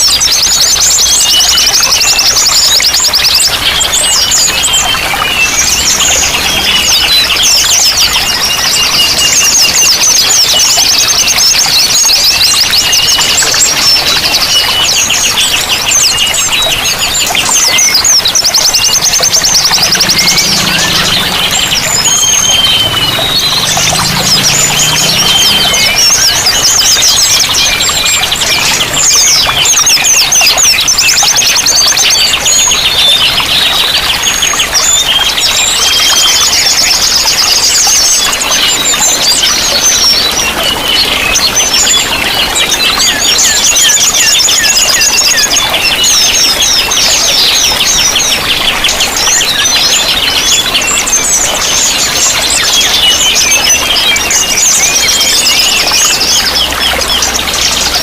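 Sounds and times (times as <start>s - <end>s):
running water: 0.0s - 58.0s
songbirds trilling and chirping: 0.0s - 58.0s.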